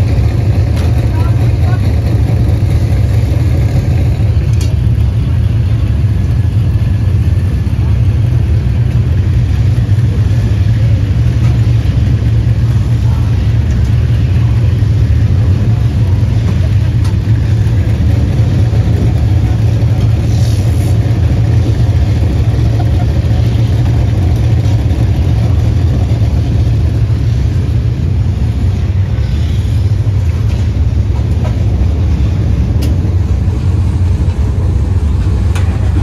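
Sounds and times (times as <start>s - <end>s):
engine droning: 0.0s - 36.0s.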